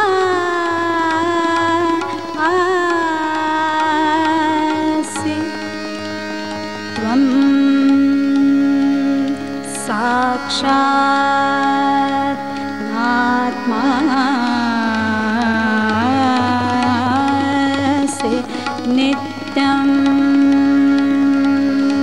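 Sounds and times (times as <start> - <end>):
harmonium steady tones: 0.0 - 22.0
tabla: 0.0 - 22.0.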